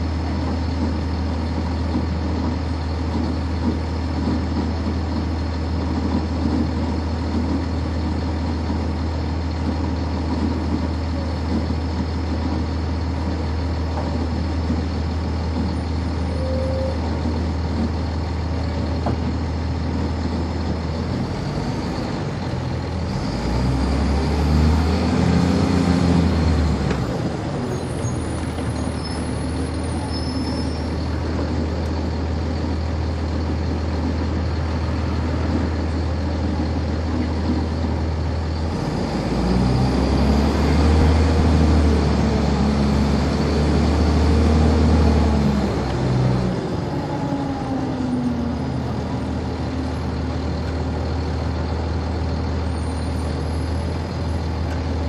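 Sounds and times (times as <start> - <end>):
diesel bus engine: 0.0 - 55.0.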